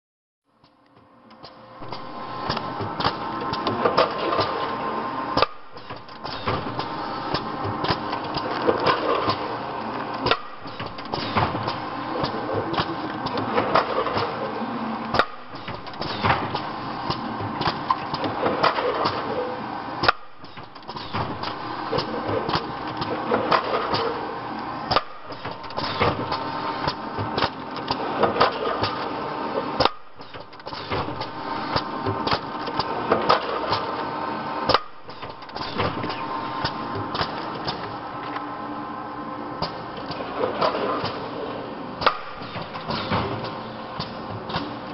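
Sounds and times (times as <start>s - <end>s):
packaging machine hum: 0.9s - 44.9s
rapid mechanical clicks and knocks: 1.8s - 4.8s, 5.4s - 9.5s, 10.1s - 14.4s, 15.1s - 19.4s, 20.0s - 24.2s, 24.9s - 34.1s, 34.7s - 38.0s, 39.6s - 41.3s, 42.0s - 44.9s.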